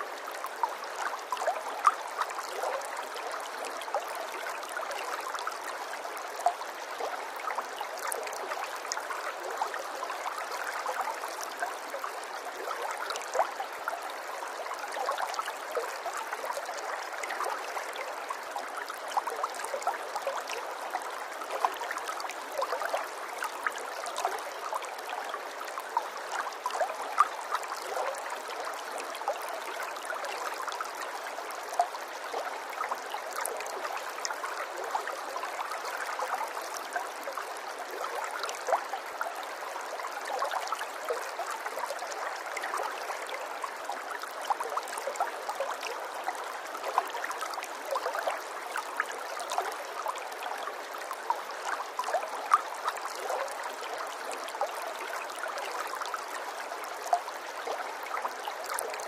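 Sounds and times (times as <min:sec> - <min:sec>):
water trickling and babbling: 0:00.0 - 0:59.0.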